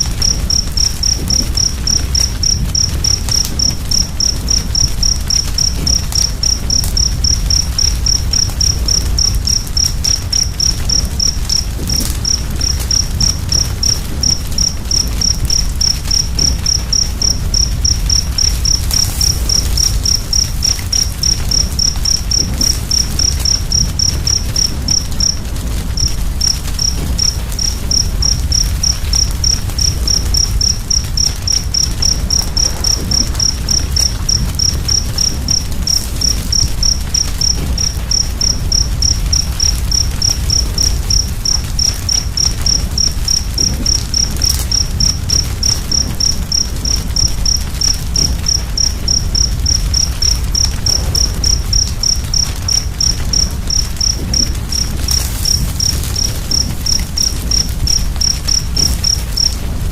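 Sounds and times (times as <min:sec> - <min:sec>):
cricket chirping: 0:00.0 - 0:59.9
faint fire crackles: 0:00.0 - 0:59.9
low rumble of fire: 0:00.0 - 0:59.9.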